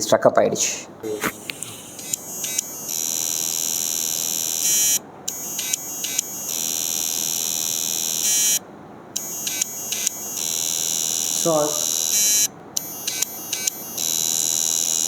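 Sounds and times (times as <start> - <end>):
hard disk high-pitched whine: 1.0 - 8.6, 9.2 - 15.0
hard disk ticking: 1.0 - 8.6, 9.2 - 15.0.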